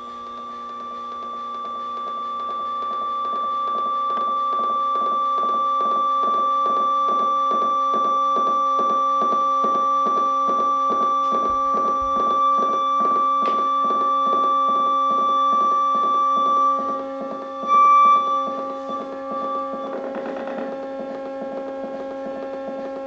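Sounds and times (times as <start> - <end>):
pulsing electronic drone: 0.0 - 23.0.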